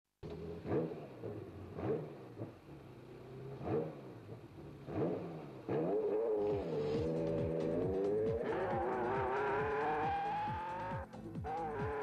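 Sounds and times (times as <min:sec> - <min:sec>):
sports car engine revving: 0:00.2 - 0:12.0.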